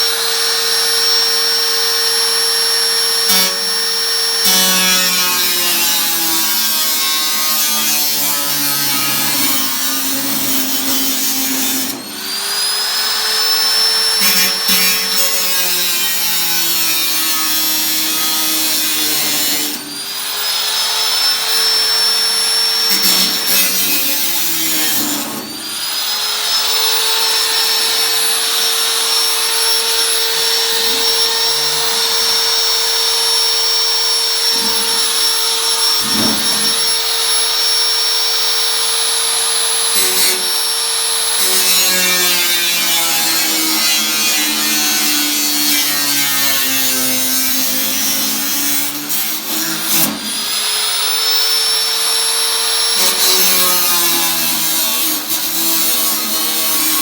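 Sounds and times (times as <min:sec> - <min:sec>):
electric power tool whining: 0:00.0 - 0:57.0.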